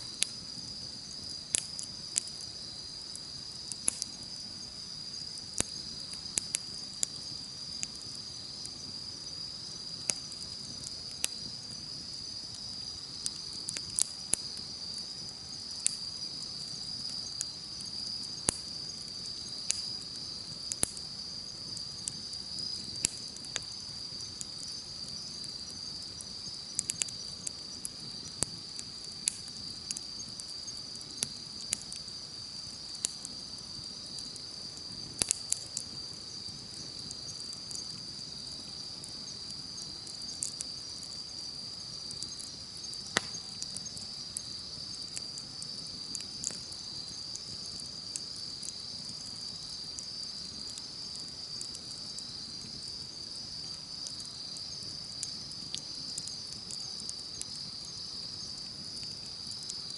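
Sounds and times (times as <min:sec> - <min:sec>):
campfire crackling and popping: 0:00.0 - 0:59.9
insects chorus: 0:00.0 - 0:59.9.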